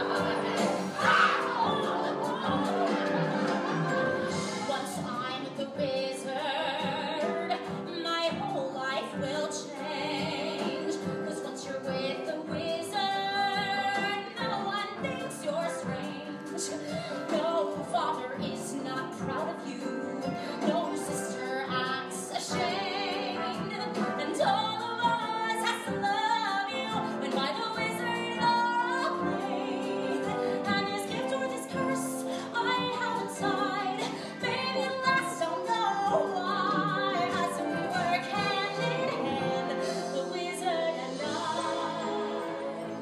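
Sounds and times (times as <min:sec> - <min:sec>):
orchestral accompaniment: 0:00.0 - 0:43.0
woman singing: 0:00.0 - 0:43.0.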